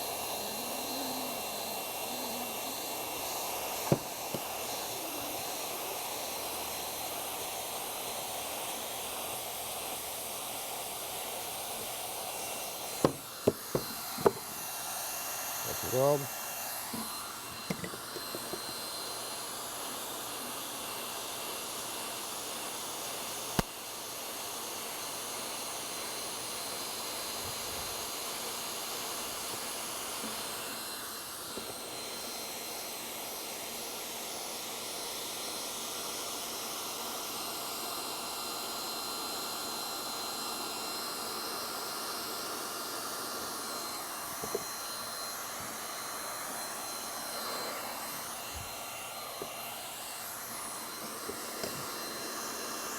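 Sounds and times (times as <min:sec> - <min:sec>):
heat gun blowing: 0:00.0 - 0:52.9.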